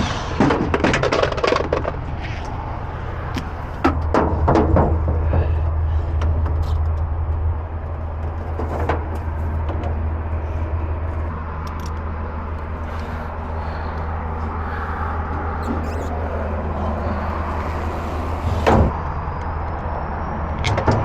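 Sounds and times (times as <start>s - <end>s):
low machinery rumble: 0.0s - 21.0s.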